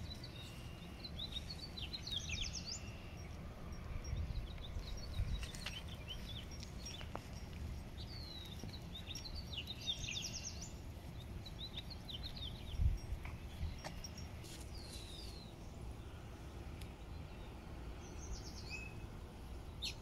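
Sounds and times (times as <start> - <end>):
songbirds chirping and trilling: 0.0 - 20.0
steady low rumble: 0.0 - 20.0.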